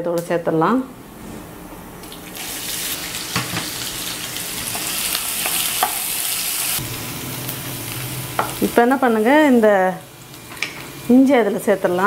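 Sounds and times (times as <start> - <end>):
onions sizzling in hot oil: 2.2 - 12.0.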